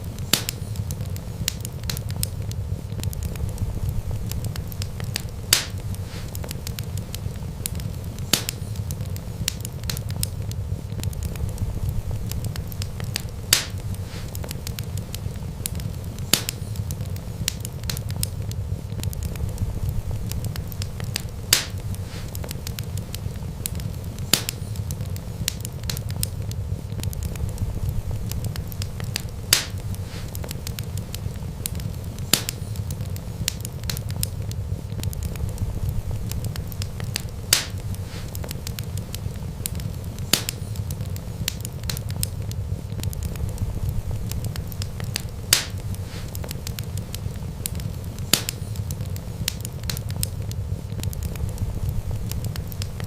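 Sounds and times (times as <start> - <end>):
fire popping: 0.0 - 53.0
wood fire crackling: 0.0 - 53.0.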